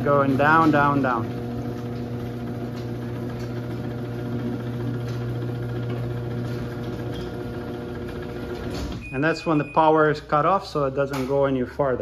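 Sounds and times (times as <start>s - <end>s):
garage door opener humming: 0.0s - 12.0s.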